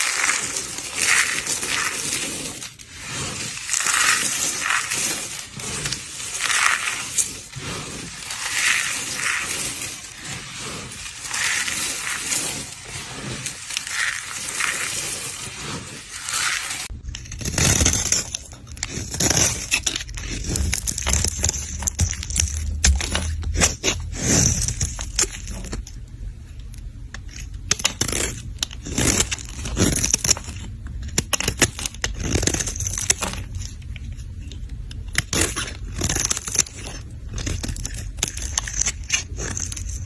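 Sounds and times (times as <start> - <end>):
dry soap crunching: 0.0 - 26.0, 27.2 - 40.0.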